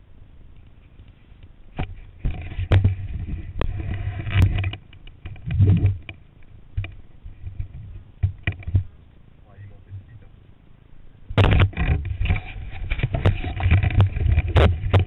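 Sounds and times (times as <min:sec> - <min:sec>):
sharp clicks and knocks: 0:00.5 - 0:08.9, 0:11.3 - 0:15.0.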